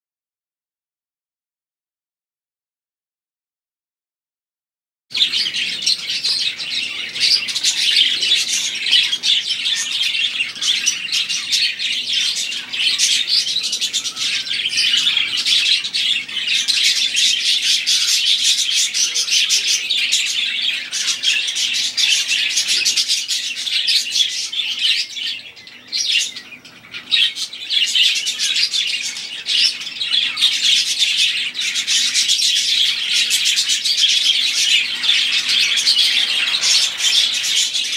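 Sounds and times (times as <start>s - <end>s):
budgerigars chattering: 5.2s - 37.9s.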